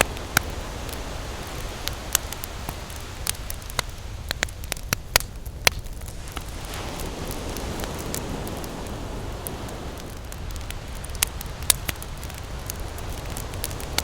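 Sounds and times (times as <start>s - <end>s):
campfire crackling: 0.0s - 14.0s
ocean surf: 0.0s - 14.0s.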